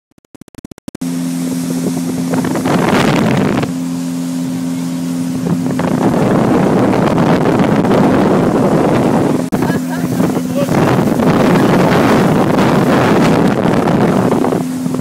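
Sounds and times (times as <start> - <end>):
motorboat engine hum: 0.2 - 15.0
water rushing from wake: 1.0 - 15.0
wind buffeting microphone: 1.4 - 15.0.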